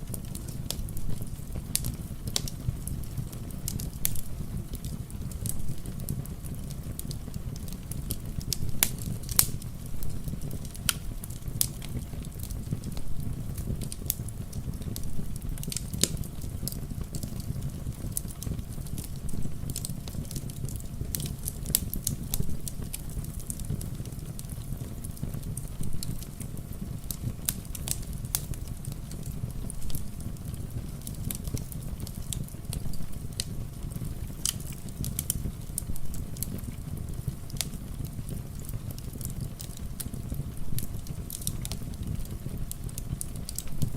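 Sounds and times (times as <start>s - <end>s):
gentle rain patter: 0.0s - 43.9s
wood fire crackling and popping: 0.0s - 43.9s.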